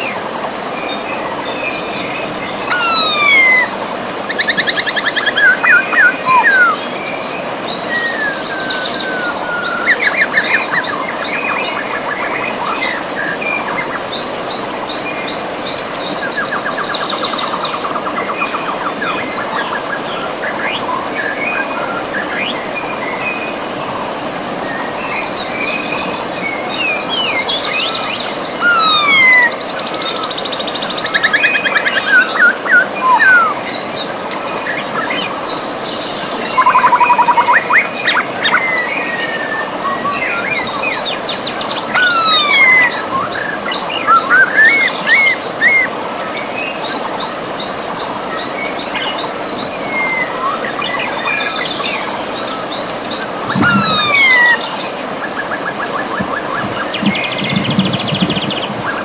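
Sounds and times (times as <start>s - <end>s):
birds singing: 0.0s - 59.0s
river water rushing: 0.0s - 59.0s.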